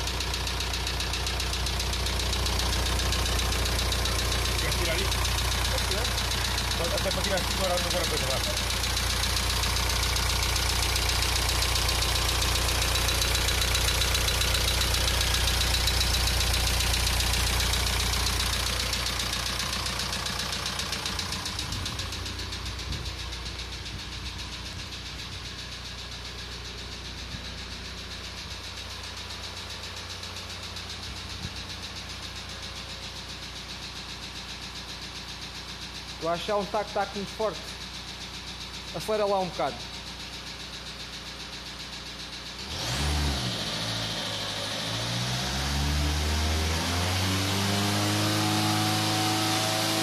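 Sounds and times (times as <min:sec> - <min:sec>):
rhythmic engine knocking: 0:00.0 - 0:43.2
diesel engine idling: 0:00.0 - 0:50.0.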